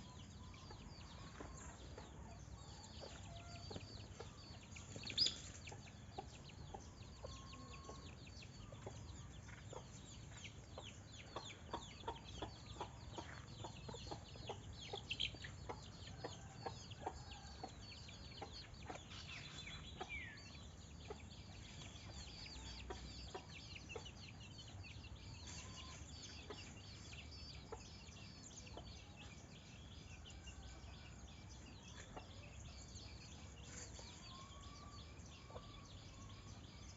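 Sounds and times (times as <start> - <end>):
chickens clucking: 0.0 - 36.9
small birds chirping: 0.0 - 36.9.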